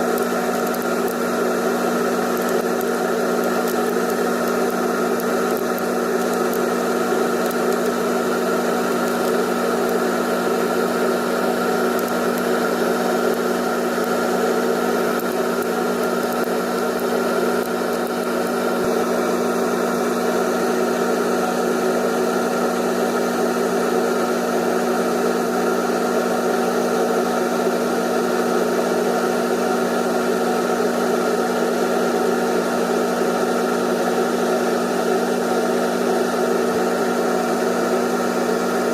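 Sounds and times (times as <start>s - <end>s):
electric motor humming: 0.0s - 31.2s.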